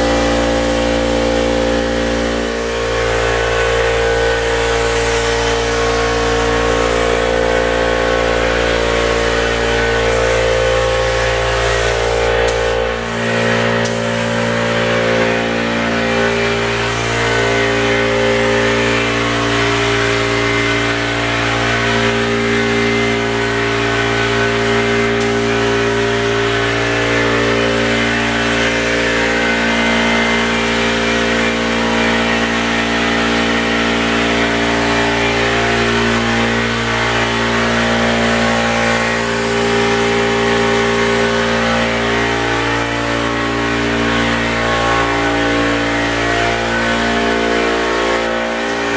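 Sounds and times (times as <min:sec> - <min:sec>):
air compressor running: 0:00.0 - 0:48.9
spray gun hissing: 0:00.0 - 0:48.9.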